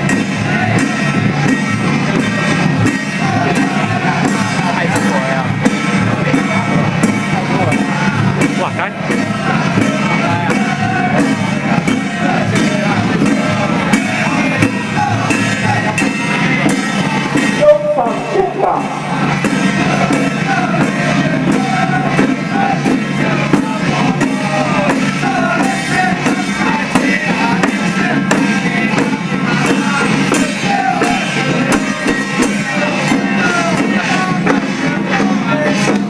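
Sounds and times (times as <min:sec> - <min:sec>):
loud music with singing: 0:00.0 - 0:36.0.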